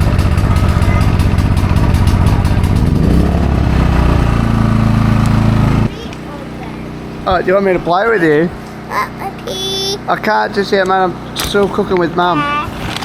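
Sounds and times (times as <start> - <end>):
portable generator engine running: 0.0 - 13.0.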